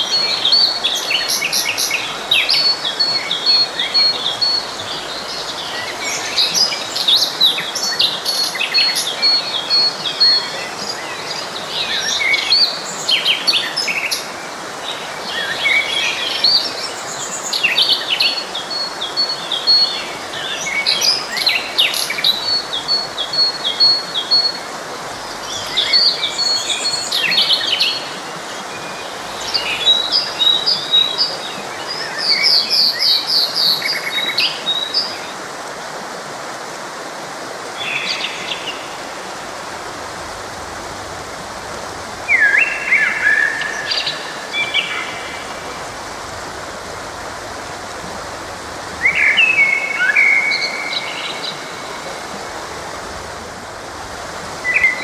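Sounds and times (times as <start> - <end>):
birds singing and chirping: 0.0 - 14.3, 15.2 - 35.3, 37.8 - 55.0
stream flowing: 0.0 - 55.0.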